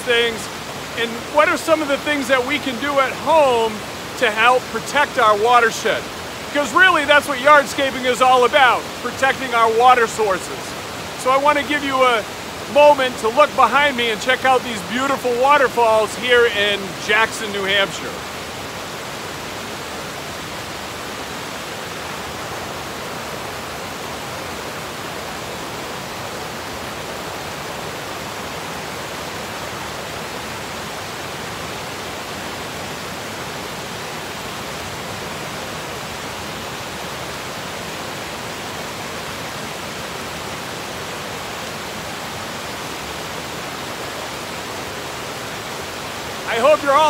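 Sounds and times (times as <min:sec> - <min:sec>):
waterfall rushing over rocks: 0:00.0 - 0:47.0.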